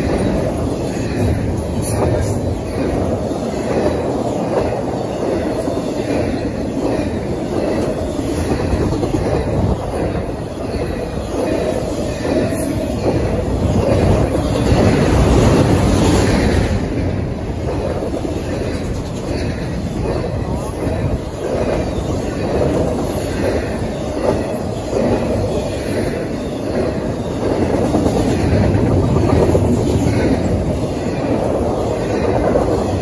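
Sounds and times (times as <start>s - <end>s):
freight train wheels on rails: 0.0s - 33.0s.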